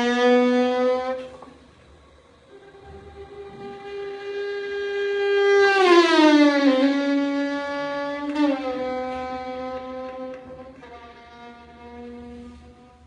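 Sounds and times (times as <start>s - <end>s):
air horn long note: 0.0s - 1.5s, 2.5s - 13.0s.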